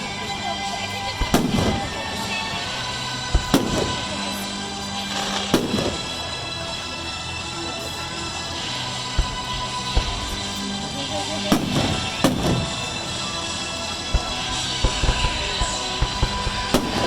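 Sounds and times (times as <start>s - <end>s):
music playing: 0.0s - 17.0s
fireworks bangs: 1.0s - 6.8s, 7.8s - 17.0s.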